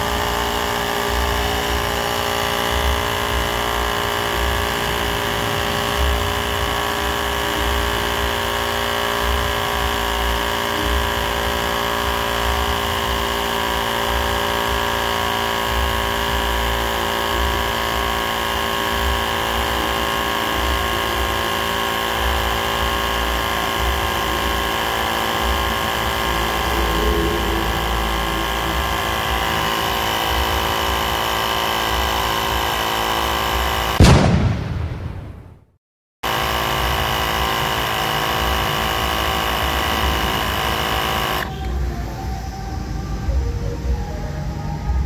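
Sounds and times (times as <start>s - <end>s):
electric air compressor running: 0.0s - 34.6s, 36.2s - 45.0s.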